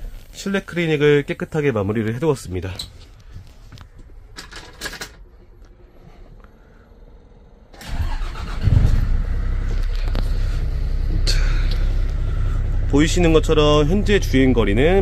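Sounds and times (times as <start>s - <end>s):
diesel engine cranking and idling: 2.3s - 15.0s.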